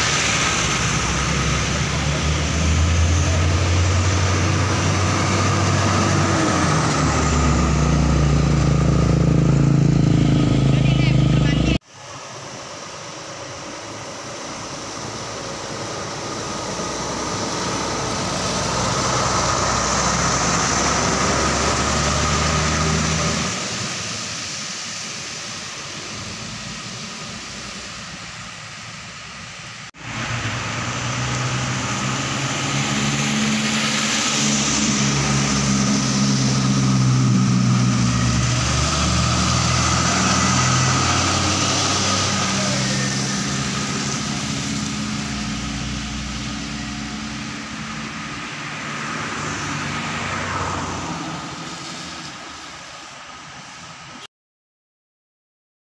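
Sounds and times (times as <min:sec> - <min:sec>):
tanker truck passing close: 0:00.0 - 0:54.0
heavy truck diesel engines passing: 0:00.0 - 0:54.2.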